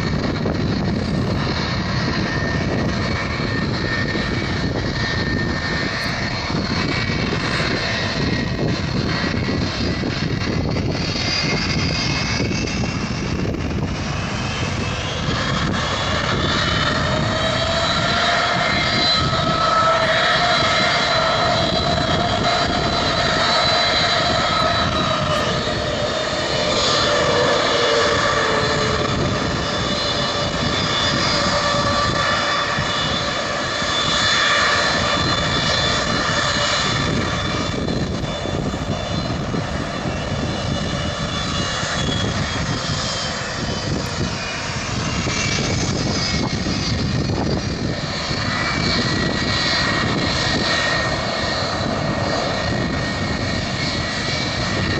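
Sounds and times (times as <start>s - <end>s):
jet engines running: 0.0s - 54.9s.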